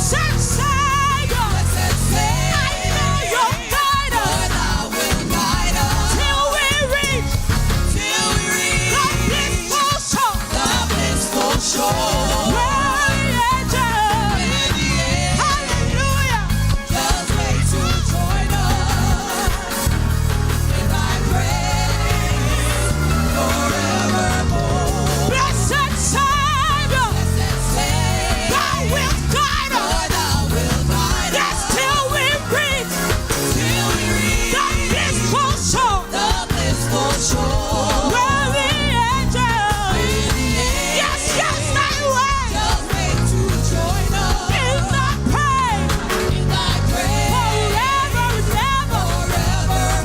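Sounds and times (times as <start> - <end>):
band playing with pulsing bass: 0.0 - 50.0.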